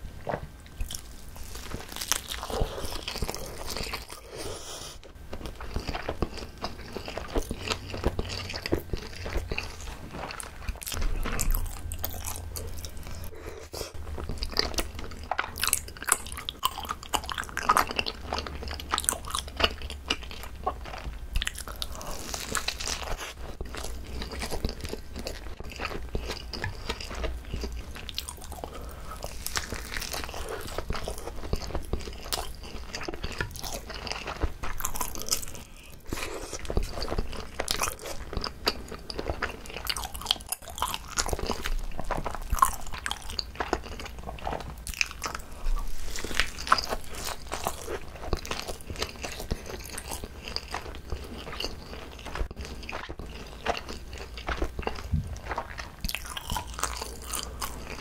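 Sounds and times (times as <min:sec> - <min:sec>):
chewing and biting food: 0:00.2 - 0:58.0.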